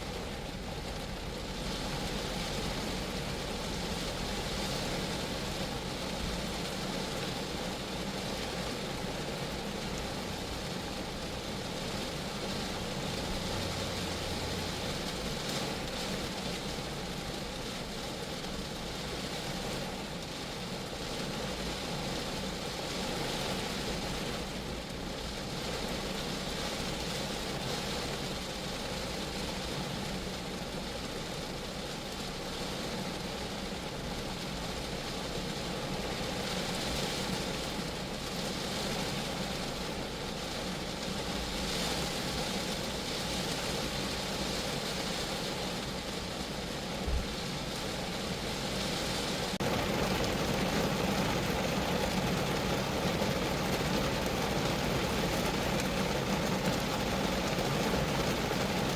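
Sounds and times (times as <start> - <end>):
rain on a car roof: 0.0 - 58.9.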